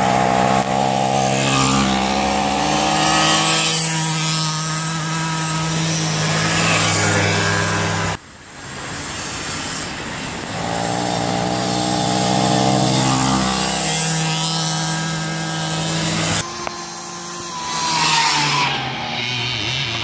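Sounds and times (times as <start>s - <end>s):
small engine revving up: 0.0s - 8.2s, 9.3s - 20.0s
two-stroke engine revving: 0.0s - 8.2s, 10.4s - 20.0s.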